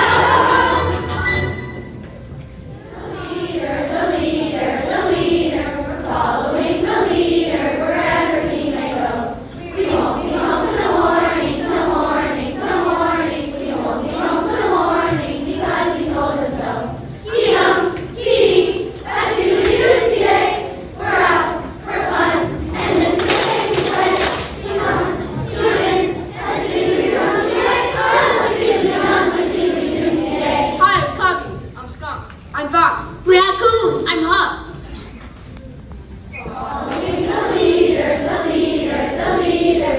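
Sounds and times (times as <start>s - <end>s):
children's choir singing: 0.0s - 31.8s, 33.9s - 39.9s.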